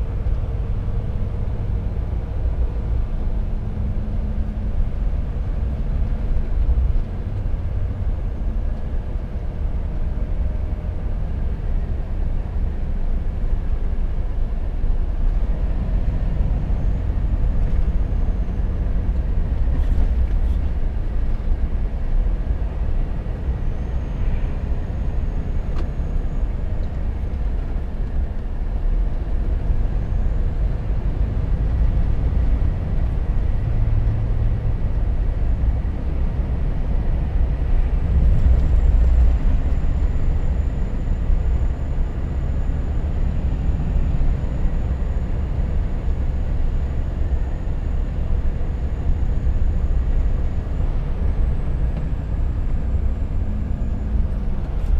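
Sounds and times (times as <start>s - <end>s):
road noise: 0.0s - 54.9s
truck diesel engine droning: 0.0s - 54.9s.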